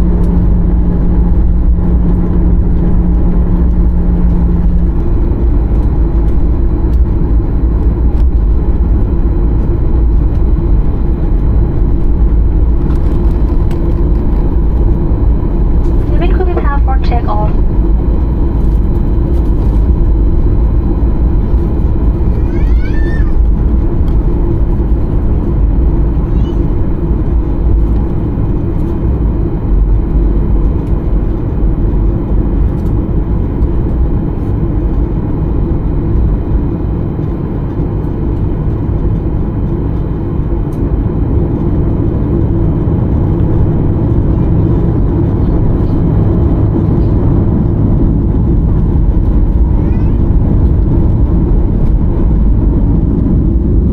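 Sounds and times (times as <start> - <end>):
airliner cabin engine rumble: 0.0 - 53.9.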